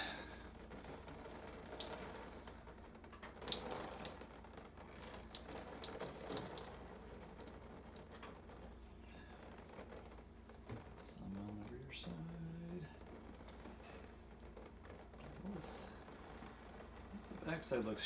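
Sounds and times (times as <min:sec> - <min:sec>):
liquid trickling and dripping: 0:00.0 - 0:18.0.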